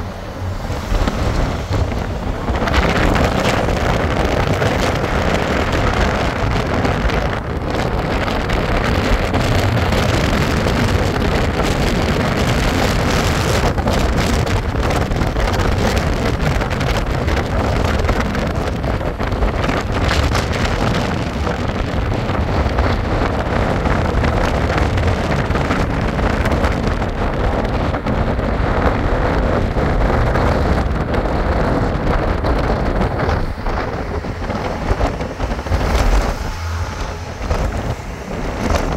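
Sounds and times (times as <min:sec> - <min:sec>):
vehicle road noise: 0:00.0 - 0:38.9
wind buffeting microphone: 0:00.0 - 0:38.9.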